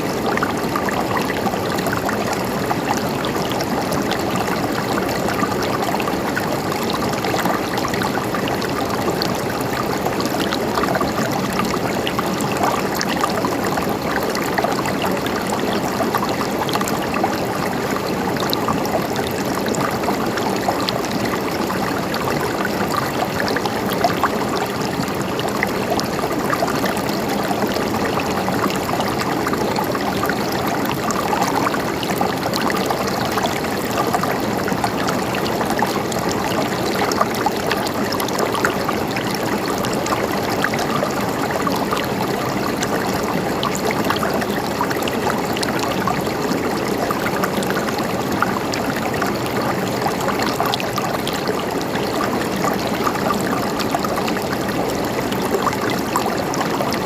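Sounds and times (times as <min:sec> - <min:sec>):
running water gurgling: 0:00.0 - 0:57.0.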